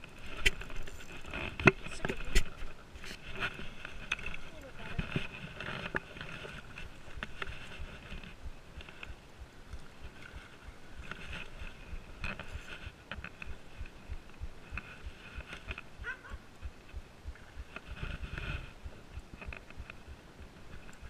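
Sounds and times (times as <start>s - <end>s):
wind buffeting rumble: 0.0s - 21.0s.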